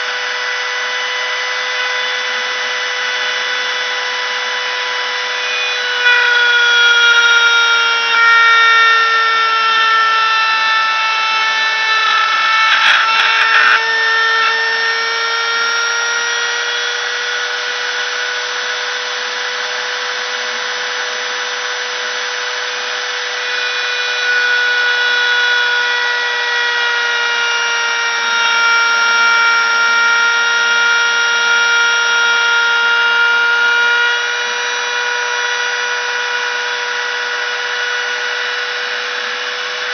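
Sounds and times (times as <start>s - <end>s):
spindle motor high whine: 0.0s - 39.9s.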